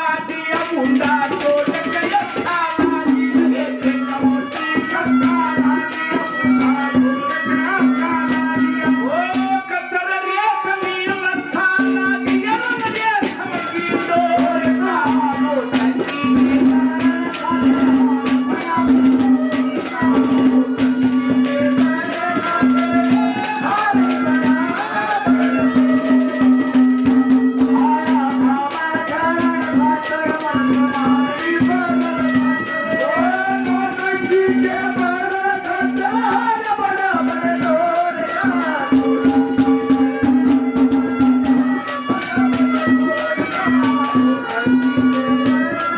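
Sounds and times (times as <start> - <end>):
hand drum rhythm: 0.0 - 9.7, 10.6 - 45.9.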